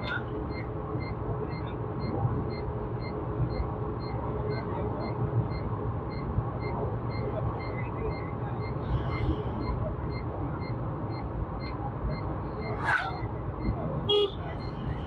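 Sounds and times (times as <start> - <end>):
vehicle road and engine rumble: 0.0 - 15.0.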